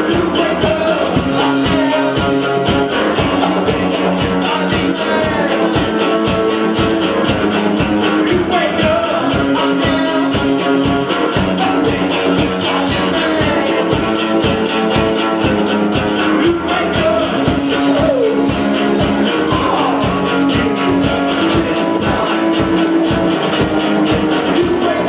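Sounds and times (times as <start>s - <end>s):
man singing: 0.0s - 6.4s, 8.0s - 14.9s, 16.2s - 23.2s, 24.3s - 25.0s
drum kit beat: 0.0s - 25.0s
electric guitar: 0.0s - 25.0s.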